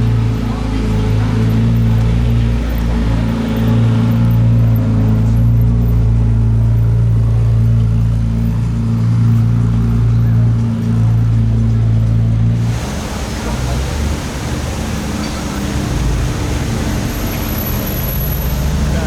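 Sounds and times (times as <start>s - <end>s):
car engine running steadily: 0.0s - 19.0s.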